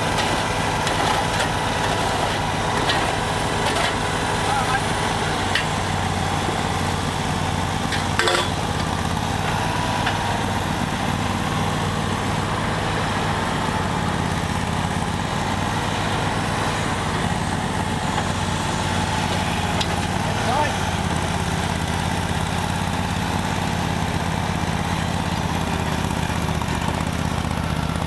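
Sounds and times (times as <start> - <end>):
machinery engine idling: 0.0 - 28.0.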